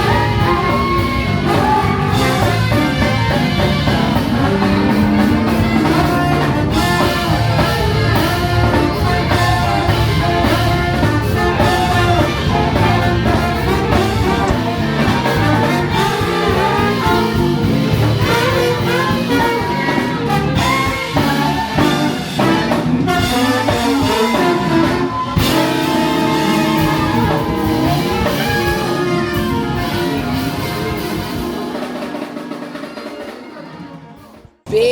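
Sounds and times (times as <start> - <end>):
brass horns playing melody: 0.0 - 34.4
jazz band playing: 0.0 - 34.9.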